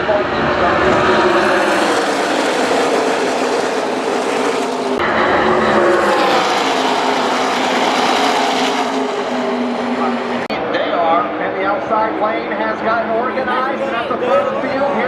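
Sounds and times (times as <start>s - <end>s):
racing trucks passing: 0.0s - 15.0s.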